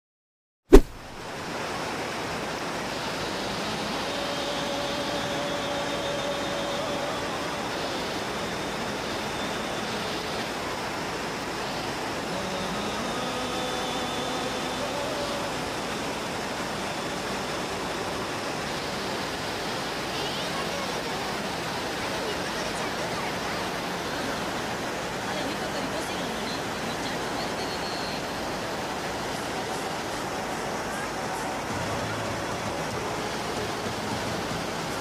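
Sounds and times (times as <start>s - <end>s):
waterfall roaring over rocks: 0.7s - 35.0s.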